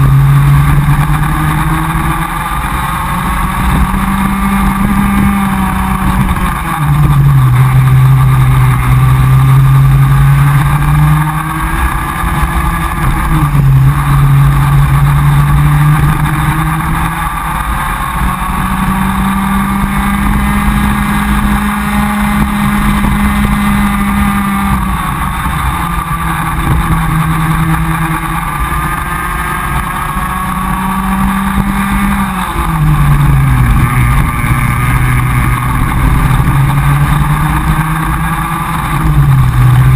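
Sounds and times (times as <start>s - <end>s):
kart two-stroke engine racing: 0.0s - 39.9s
wind and road noise: 0.0s - 39.9s.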